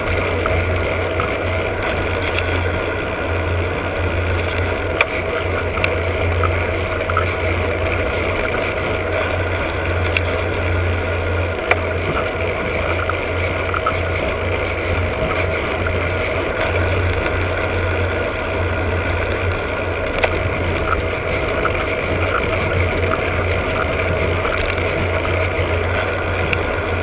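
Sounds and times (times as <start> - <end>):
low rumble: 0.0 - 27.0
sharp ticks from bike: 0.0 - 27.0
tyres rolling on asphalt: 0.0 - 27.0.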